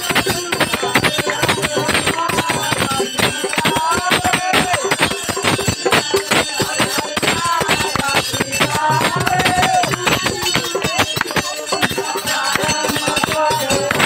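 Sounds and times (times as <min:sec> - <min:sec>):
bells and cymbals clanging: 0:00.0 - 0:14.0
drumming: 0:00.0 - 0:14.0.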